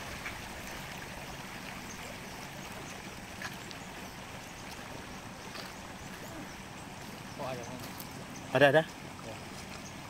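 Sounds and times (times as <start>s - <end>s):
river rushing over gravel: 0.0s - 9.8s.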